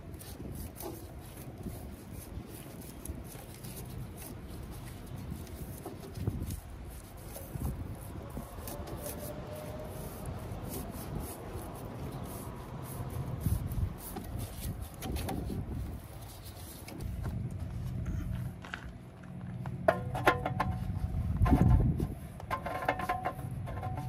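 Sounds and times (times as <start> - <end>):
rubbing and scraping: 0.0 - 24.0.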